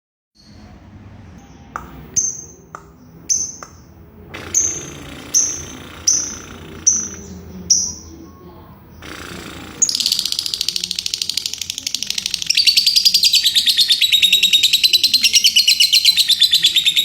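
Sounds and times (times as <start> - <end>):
lovebird chirping: 1.4 - 17.0.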